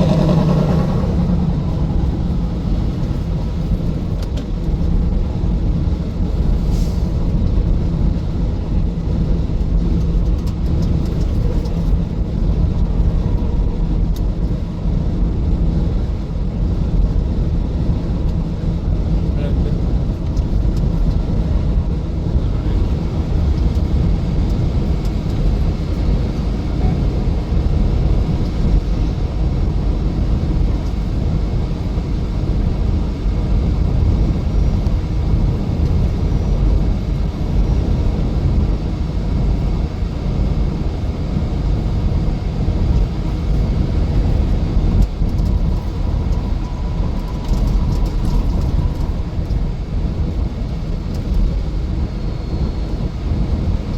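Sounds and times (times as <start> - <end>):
vehicle engine and road rumble: 0.0 - 53.9.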